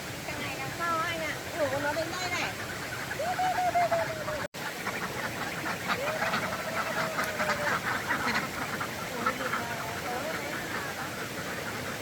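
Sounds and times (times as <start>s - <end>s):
ducks quacking: 0.4s - 12.0s.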